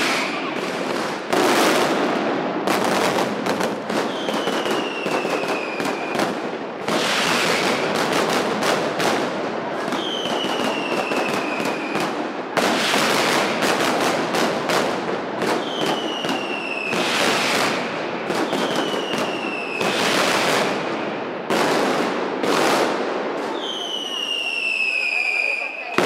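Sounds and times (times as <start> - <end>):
firecracker bangs: 0.0 - 26.0.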